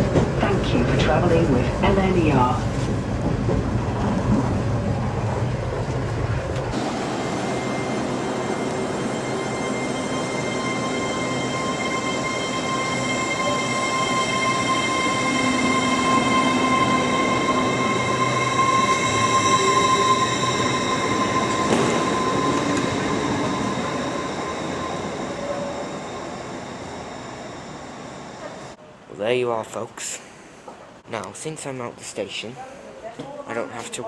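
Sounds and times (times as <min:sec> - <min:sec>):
train running with high whine: 0:00.0 - 0:28.8.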